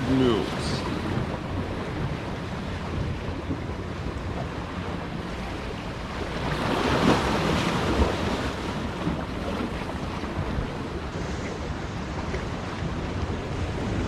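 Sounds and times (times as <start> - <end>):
ocean surf: 0.0 - 14.0
wave washing in: 0.0 - 14.0
wind buffeting microphone: 0.0 - 14.0.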